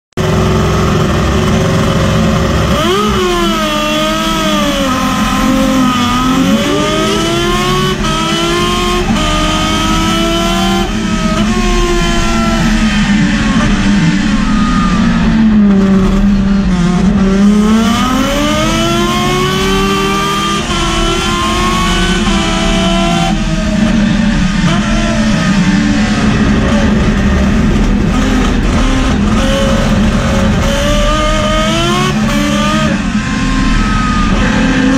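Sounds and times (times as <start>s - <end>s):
race car engine revving: 0.2s - 34.9s.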